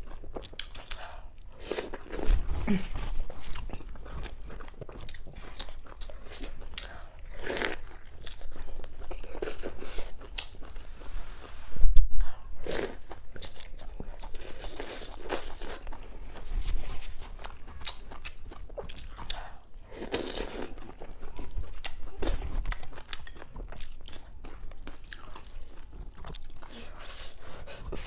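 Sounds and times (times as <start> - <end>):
person crunching and chewing food: 0.0 - 11.1, 12.2 - 28.0.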